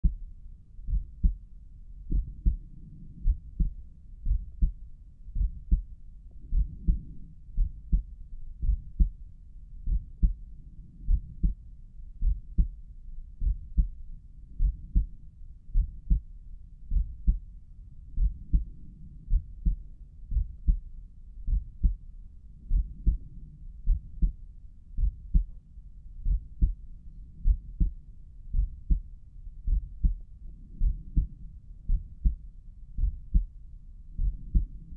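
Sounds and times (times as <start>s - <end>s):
heartbeat through stethoscope: 0.0s - 9.2s, 9.8s - 25.6s, 26.2s - 34.9s
faint low rumble: 0.0s - 34.9s.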